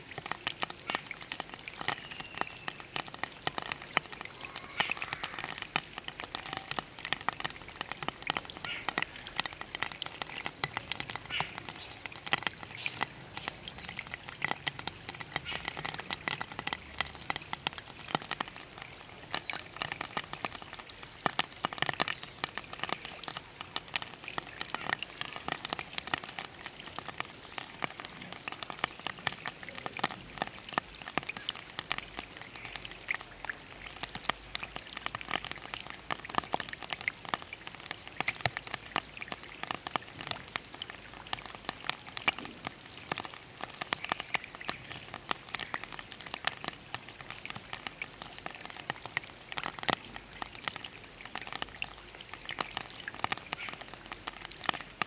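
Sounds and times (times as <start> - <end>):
rain splashing into water: 0.0 - 55.0.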